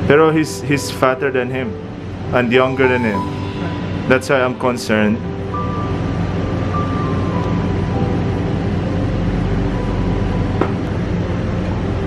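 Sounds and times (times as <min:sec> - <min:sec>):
soft sustained background music: 0:00.0 - 0:12.0
steady low hum: 0:00.0 - 0:12.0.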